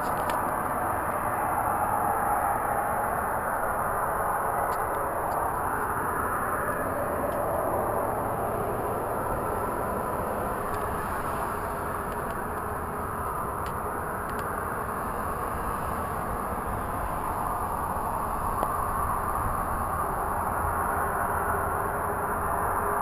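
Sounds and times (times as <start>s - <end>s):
rumbling roar from the sky: 0.0s - 23.0s.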